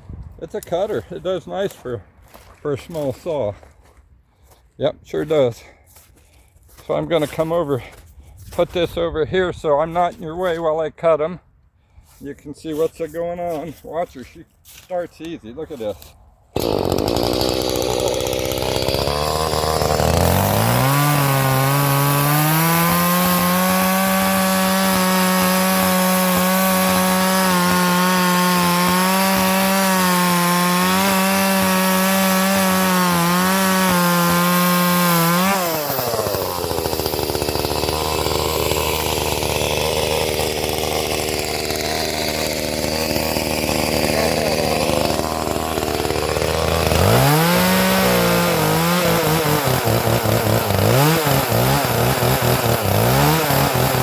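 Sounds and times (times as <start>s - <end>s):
chainsaw idling and revving: 0.6s - 4.6s, 13.4s - 54.0s.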